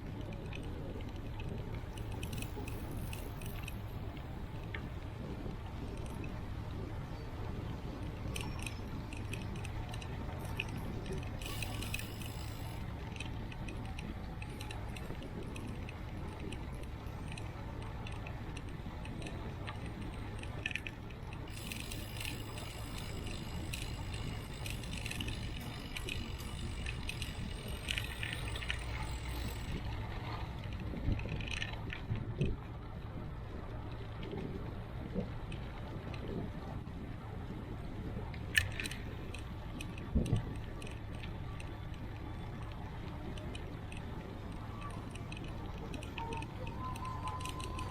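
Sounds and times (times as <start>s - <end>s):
bicycle rattling and clicking: 0.0s - 47.9s
wind and tyres on road: 0.0s - 47.9s.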